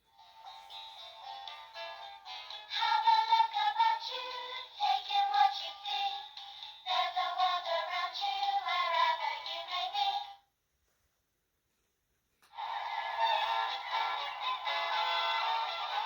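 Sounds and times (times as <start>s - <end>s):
tinny song from small speaker: 0.0s - 10.6s, 12.4s - 16.0s.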